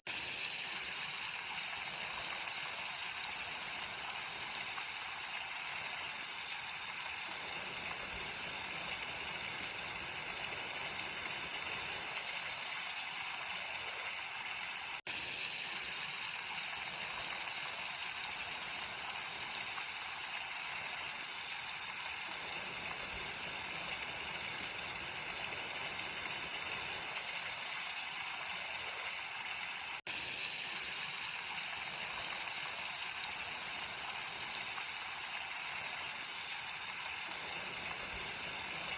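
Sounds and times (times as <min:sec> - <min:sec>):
stream flowing: 0:00.1 - 0:38.9.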